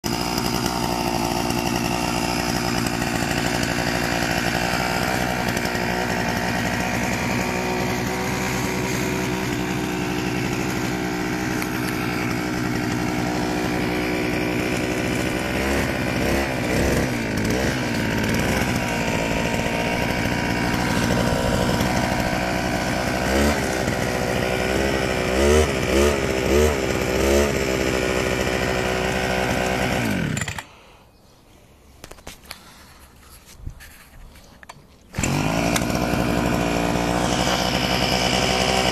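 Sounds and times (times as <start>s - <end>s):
small petrol engine idling and revving: 0.0s - 30.9s, 35.0s - 38.9s.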